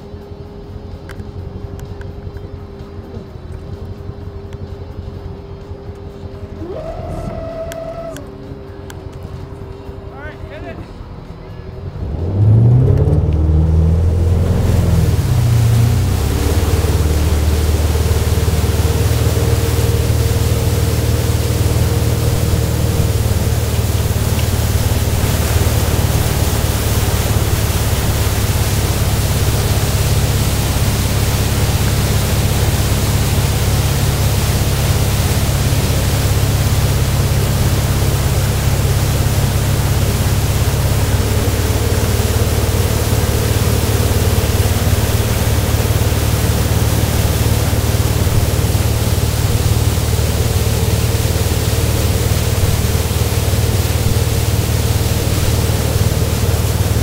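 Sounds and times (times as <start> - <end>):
boat engine droning: 0.0 - 57.0
churning wake water: 0.0 - 57.0.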